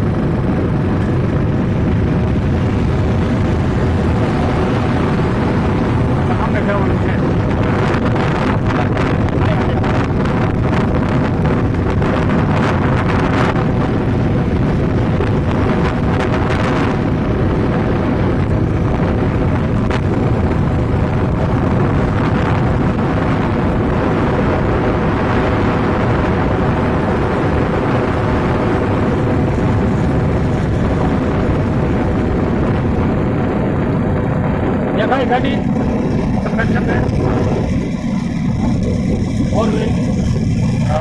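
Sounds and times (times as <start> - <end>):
vehicle engine and tyres droning: 0.0 - 41.0
wind buffeting microphone: 0.0 - 41.0.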